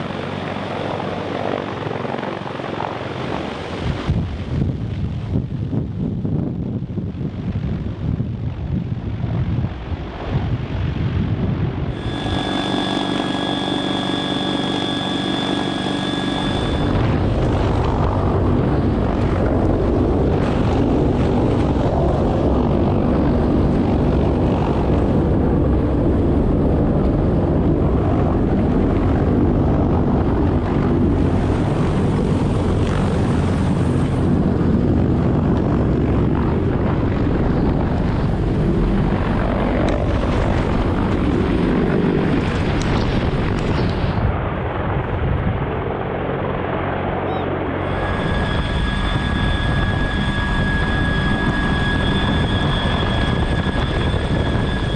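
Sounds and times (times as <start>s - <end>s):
turbine whine: 0.0s - 44.5s, 46.8s - 54.9s
helicopter rotor noise: 0.0s - 54.9s.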